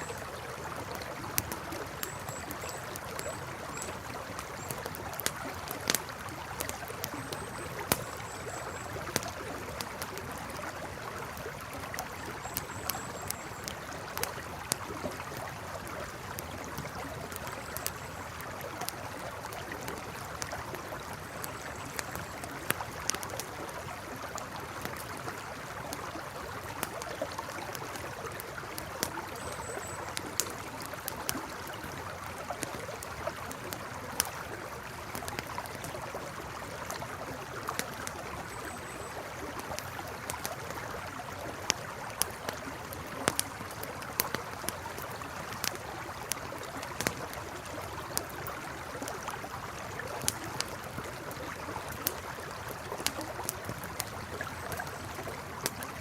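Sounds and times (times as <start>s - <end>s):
campfire crackling and popping: 0.0s - 56.0s
river flowing: 0.0s - 56.0s.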